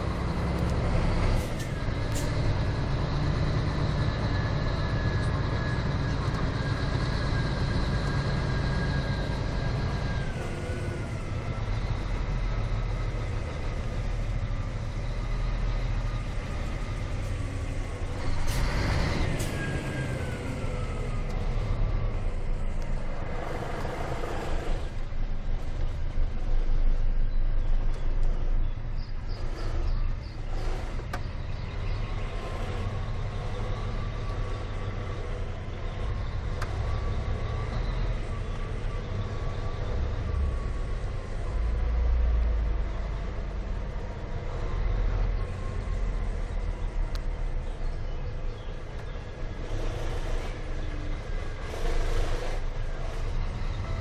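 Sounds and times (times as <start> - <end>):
diesel truck engine running: 0.0 - 54.0
engine whine: 0.0 - 54.0.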